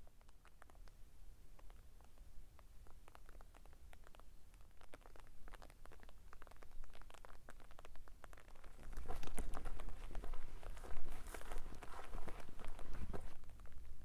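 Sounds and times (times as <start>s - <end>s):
soft ticks and taps: 0.0s - 14.0s.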